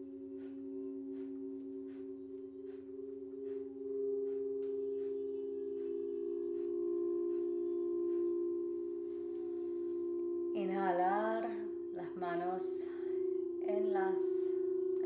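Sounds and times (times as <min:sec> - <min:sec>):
singing bowls drone: 0:00.0 - 0:15.0.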